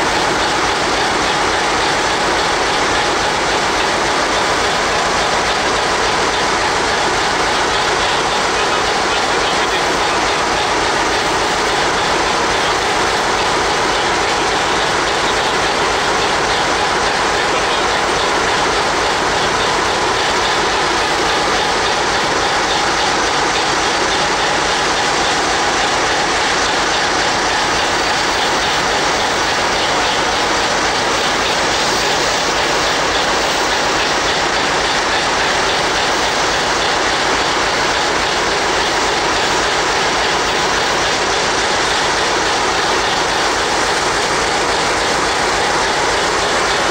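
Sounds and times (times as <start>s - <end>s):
diesel locomotive engine idling: 0.0s - 46.9s.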